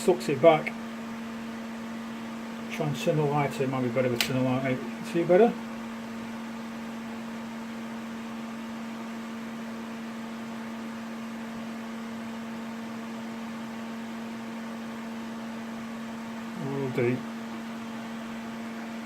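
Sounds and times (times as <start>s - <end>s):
fan motor hum: 0.0s - 19.0s.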